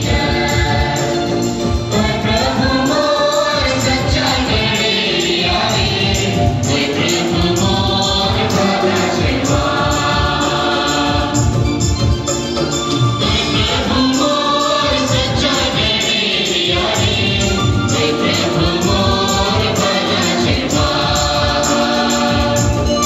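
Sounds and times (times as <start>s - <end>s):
group singing in chorus: 0.0s - 23.0s
steady drum beat: 0.0s - 23.0s.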